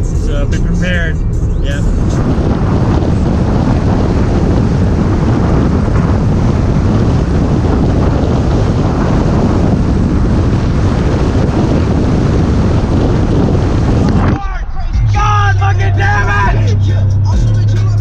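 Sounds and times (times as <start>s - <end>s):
wind blasting across microphone: 0.0s - 16.7s.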